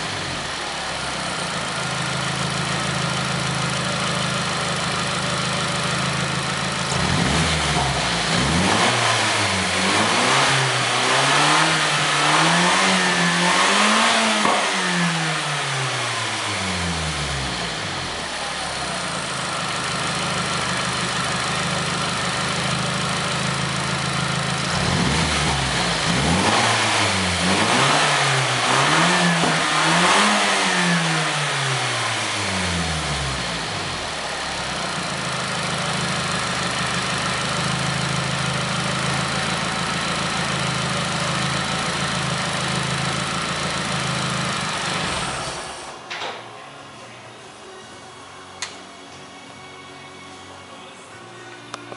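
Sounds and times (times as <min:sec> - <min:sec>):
car engine idling and revving: 0:00.0 - 0:46.1.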